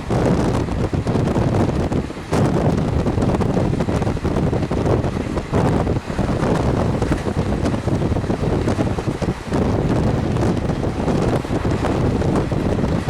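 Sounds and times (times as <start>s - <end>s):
train running rumble: 0.0s - 13.0s
wind buffeting microphone: 0.0s - 13.0s.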